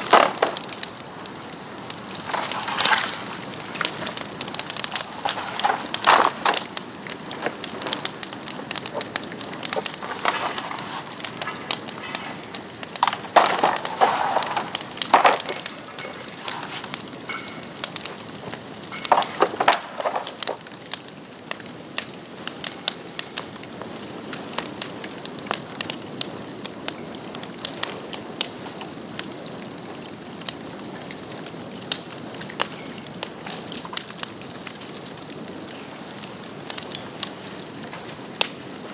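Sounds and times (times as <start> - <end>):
bamboo fire crackling and popping: 0.0 - 38.9.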